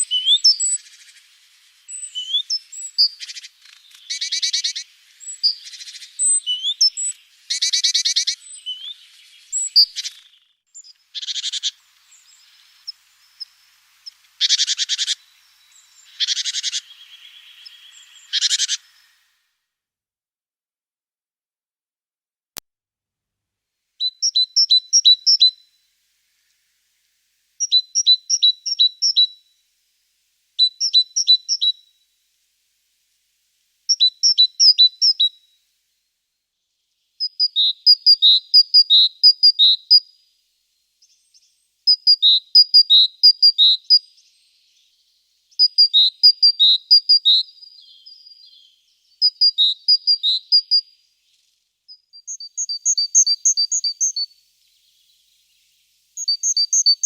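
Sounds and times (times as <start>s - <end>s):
songbird singing: 0.0s - 19.4s, 24.0s - 29.7s, 30.6s - 32.2s, 33.4s - 35.7s, 36.5s - 57.0s.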